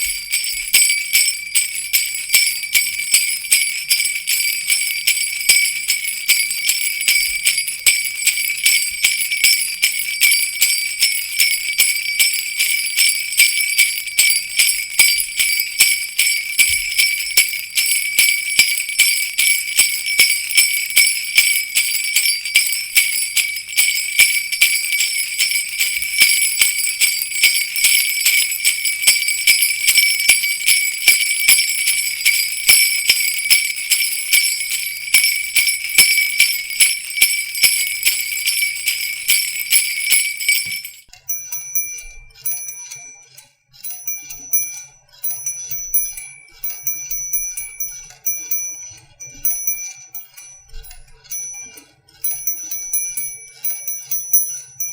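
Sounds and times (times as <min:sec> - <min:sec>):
jingle bells shaken: 0:00.0 - 0:43.2, 0:43.9 - 0:54.9
small bells tinkling: 0:00.0 - 0:54.9.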